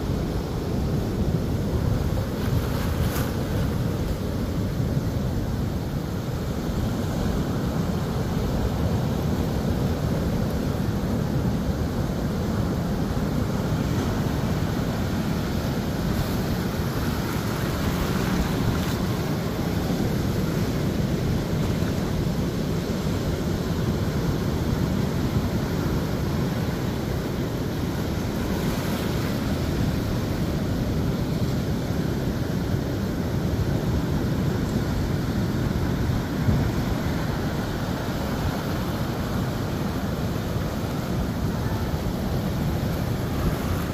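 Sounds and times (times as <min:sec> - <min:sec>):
waves breaking on beach: 0:00.0 - 0:43.9.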